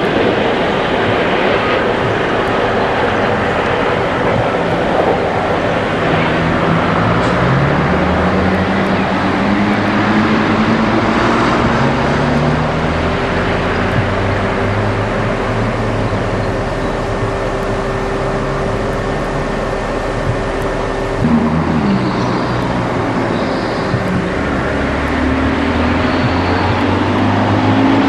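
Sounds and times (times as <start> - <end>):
electric locomotive rumble: 0.0 - 28.0
low motor hum: 0.0 - 28.0
steady higher hum: 0.0 - 28.0.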